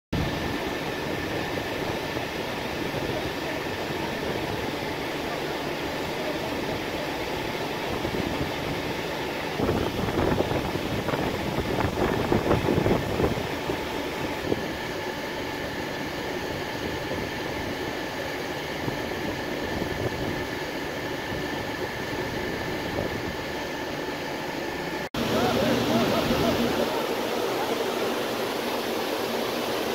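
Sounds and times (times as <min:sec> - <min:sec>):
mechanical running noise: 0:00.2 - 0:29.9
thin steady whine: 0:00.2 - 0:29.9.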